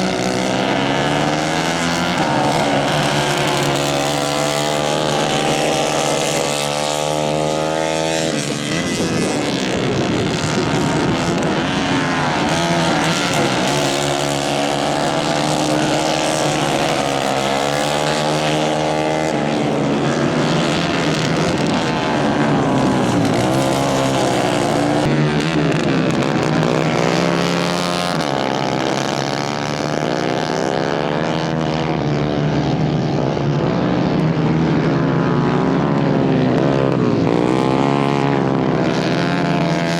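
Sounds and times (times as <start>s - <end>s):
racing kart engines revving: 0.0s - 39.9s.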